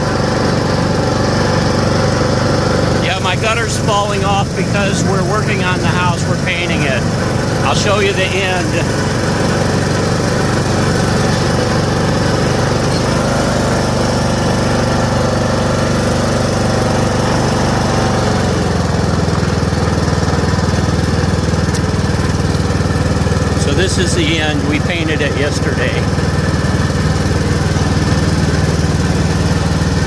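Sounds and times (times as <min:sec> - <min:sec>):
riding lawn mower engine running: 0:00.0 - 0:30.0.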